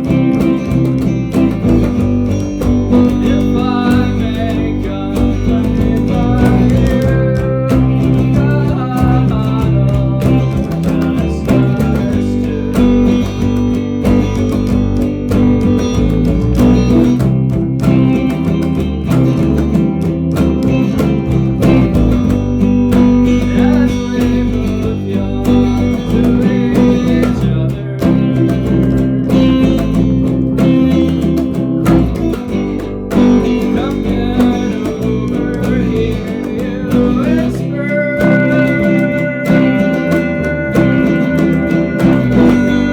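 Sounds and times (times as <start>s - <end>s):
bass guitar: 0.0s - 42.9s
drum hits: 0.0s - 42.9s
guitars: 0.0s - 42.9s.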